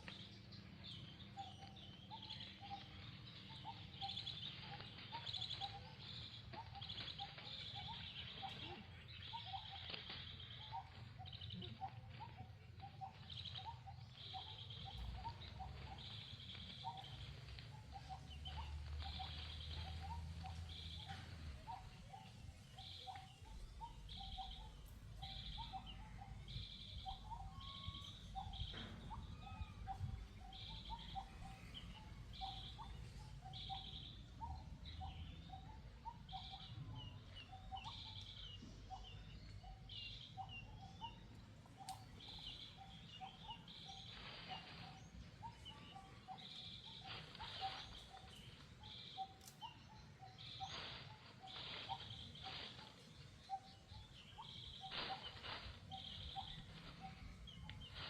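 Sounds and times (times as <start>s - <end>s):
birdsong: 0.0s - 58.0s
high bird chirps: 0.0s - 58.0s.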